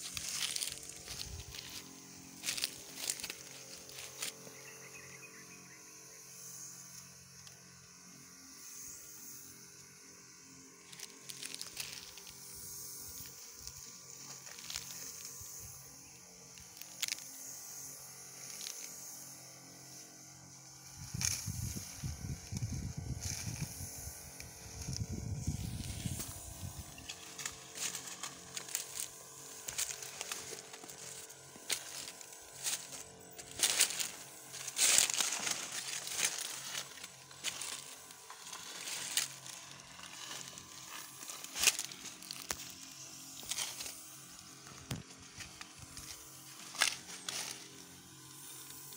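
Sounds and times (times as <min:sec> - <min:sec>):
footsteps crunching dry leaves: 0:00.0 - 0:05.8, 0:10.6 - 0:17.4, 0:18.3 - 0:19.1, 0:20.6 - 0:48.9
steady high hiss: 0:00.0 - 0:48.9.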